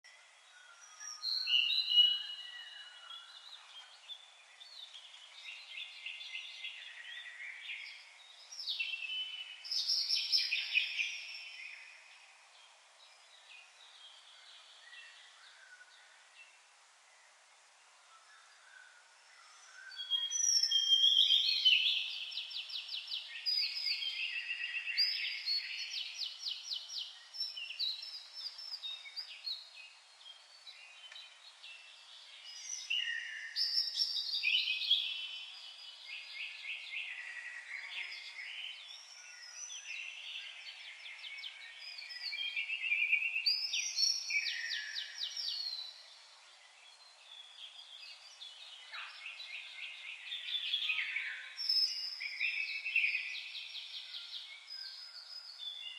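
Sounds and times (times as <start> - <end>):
songbirds trilling and warbling: 0.0 - 55.9.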